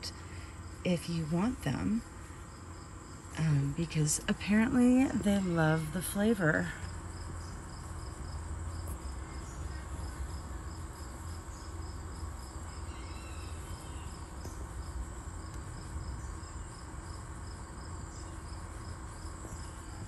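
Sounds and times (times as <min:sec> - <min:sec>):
crickets chirping: 0:00.0 - 0:20.0
high insect trill: 0:00.0 - 0:20.0
low background rumble: 0:00.0 - 0:20.0.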